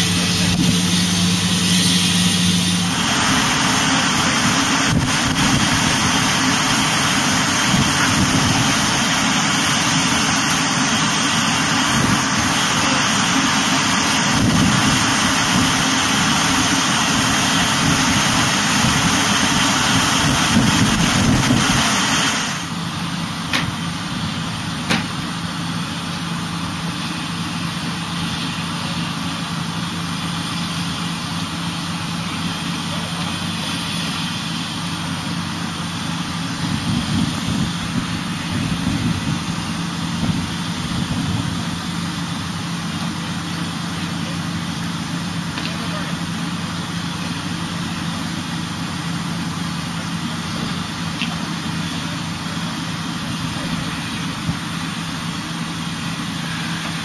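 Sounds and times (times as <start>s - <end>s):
fire engine running: 0.0s - 57.0s.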